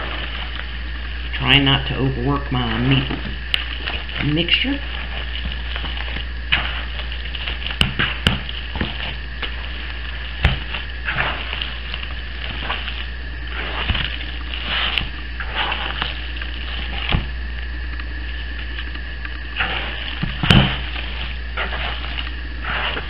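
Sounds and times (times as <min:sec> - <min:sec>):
wet meat mixture squelching: 0:00.0 - 0:17.6, 0:19.6 - 0:23.0
plastic gloves rustling: 0:00.0 - 0:23.0
steady low hum: 0:00.0 - 0:23.0.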